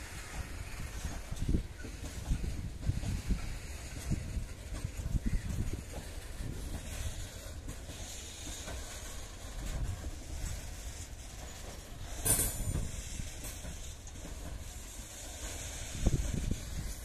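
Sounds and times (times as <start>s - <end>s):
freight wagons rumbling on rails: 0.0s - 17.0s.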